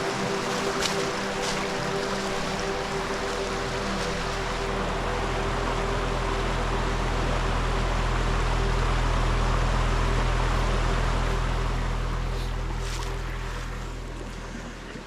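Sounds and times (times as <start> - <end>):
creek flowing over rocks: 0.0 - 15.0
low steady drone: 0.0 - 15.0.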